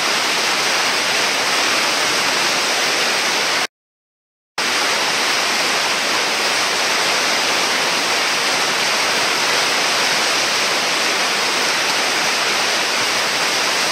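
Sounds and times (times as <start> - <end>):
whitewater roaring: 0.0 - 3.7, 4.6 - 13.9.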